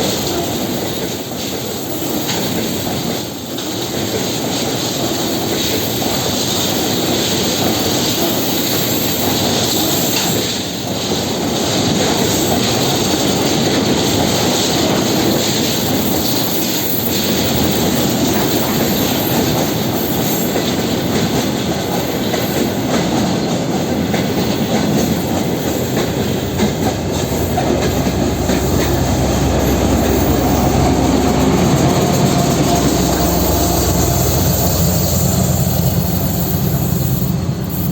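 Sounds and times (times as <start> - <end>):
train wheels clattering over rail joints: 0.0 - 37.9
diesel locomotive engine drone: 5.8 - 37.9.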